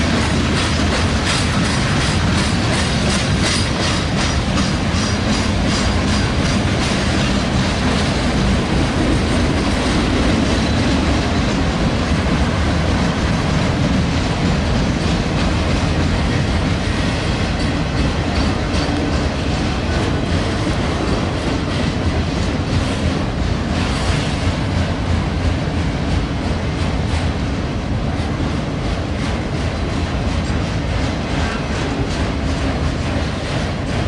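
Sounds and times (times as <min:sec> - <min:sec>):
freight train rumble: 0:00.0 - 0:34.0
wheels clacking over rail joints: 0:00.0 - 0:34.0.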